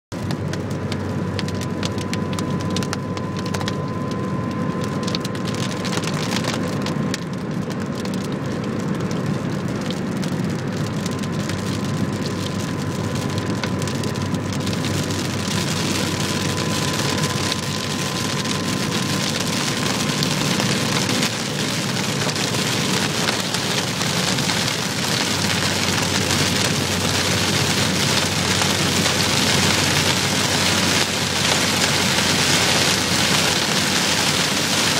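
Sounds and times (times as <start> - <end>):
low rumble of road and engine: 0.1 - 34.9
heavy rain on a car: 0.2 - 34.9
raindrops ticking: 0.2 - 34.9.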